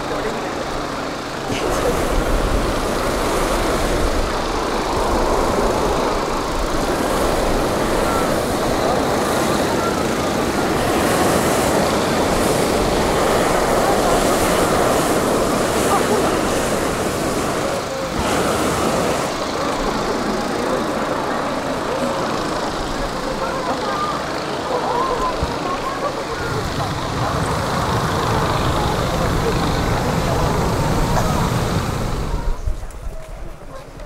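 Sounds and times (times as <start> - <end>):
crowd voices: 0.0 - 34.0
inflator fans running: 0.0 - 34.0
propane burners roaring: 0.0 - 34.0.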